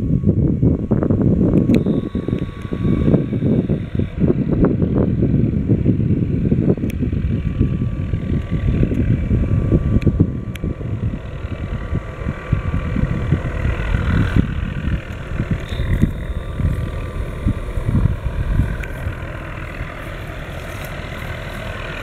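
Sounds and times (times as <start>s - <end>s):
faint high whine: 0.0s - 22.0s
helicopter rotor and turbine rumble: 0.0s - 22.0s
wind on microphone: 0.0s - 22.0s.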